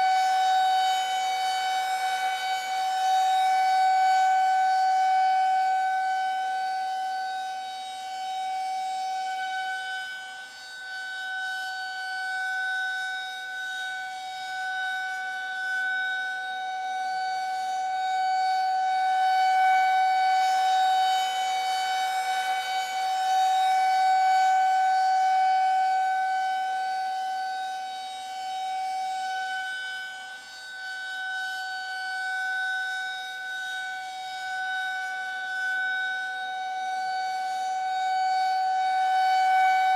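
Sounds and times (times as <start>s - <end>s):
air-raid siren steady tone: 0.0s - 39.9s.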